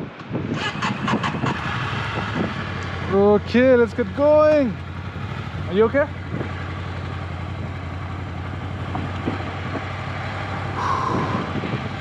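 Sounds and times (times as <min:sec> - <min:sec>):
motorcycle engine running: 0:00.6 - 0:12.0.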